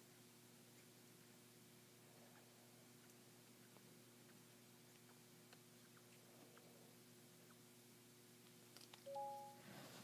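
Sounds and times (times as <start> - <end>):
faint hum and hiss: 0.0 - 10.0.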